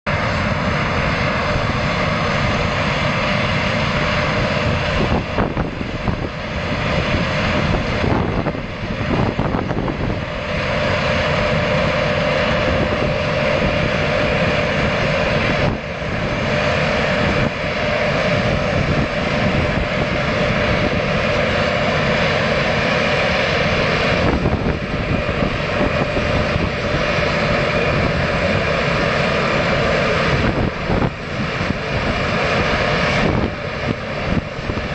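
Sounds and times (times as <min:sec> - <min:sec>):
combine harvester droning: 0:00.1 - 0:34.9
machinery whine: 0:00.1 - 0:34.9.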